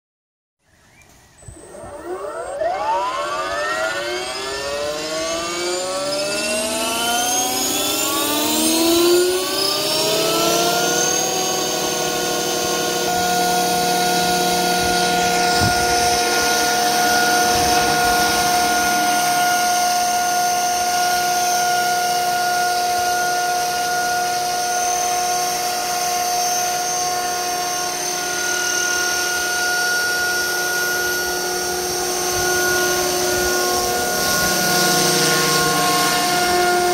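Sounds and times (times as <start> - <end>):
rc helicopter rotor whine: 0.7 - 36.9.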